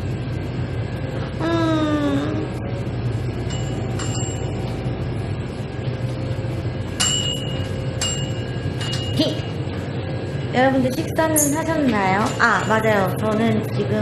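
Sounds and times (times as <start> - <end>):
low store background hum: 0.0 - 14.0.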